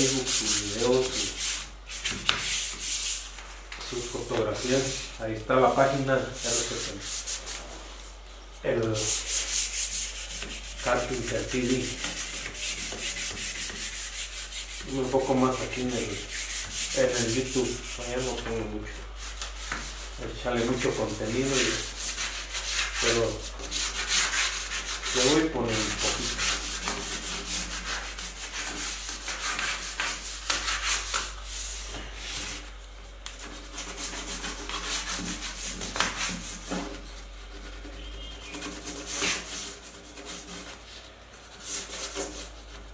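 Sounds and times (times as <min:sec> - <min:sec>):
sandpaper rubbing on wood: 0:00.0 - 0:03.3, 0:04.0 - 0:07.7, 0:08.8 - 0:18.5, 0:19.2 - 0:32.7, 0:33.4 - 0:42.9.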